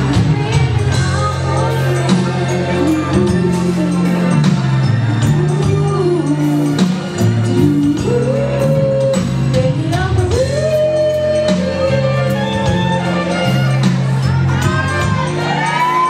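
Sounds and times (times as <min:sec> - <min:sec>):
live soul band music: 0:00.0 - 0:16.0.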